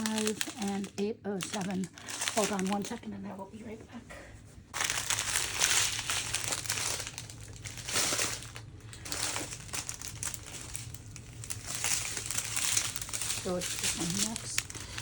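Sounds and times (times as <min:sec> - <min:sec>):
plastic packaging crinkling: 0:00.0 - 0:03.5, 0:04.6 - 0:15.0.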